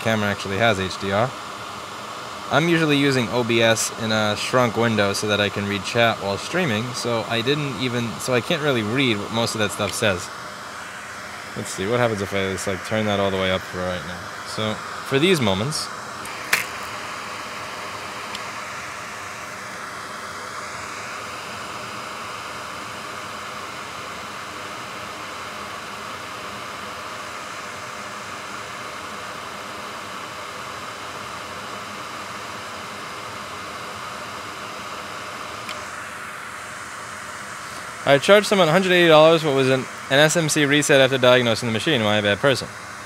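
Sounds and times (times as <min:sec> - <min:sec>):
room noise hiss: 0:00.0 - 0:43.0.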